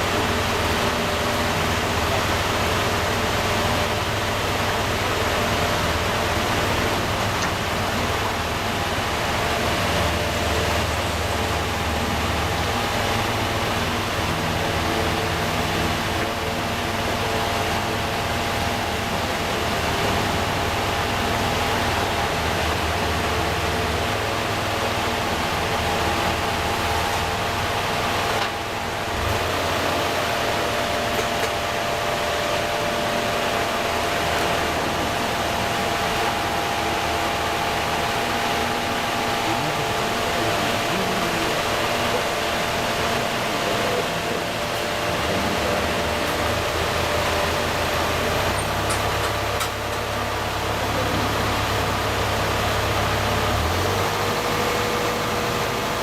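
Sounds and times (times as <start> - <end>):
machine running with low hum: 0.0 - 56.0.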